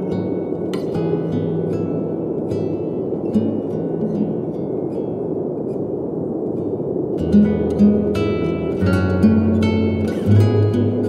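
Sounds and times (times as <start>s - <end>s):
ambient soft wash: 0.0s - 11.0s.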